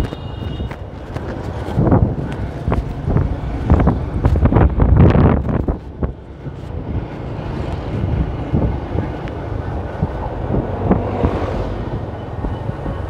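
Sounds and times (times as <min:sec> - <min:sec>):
moving vehicle rumble: 0:00.0 - 0:13.0
road traffic: 0:00.0 - 0:13.0
wind buffeting microphone: 0:00.0 - 0:13.0.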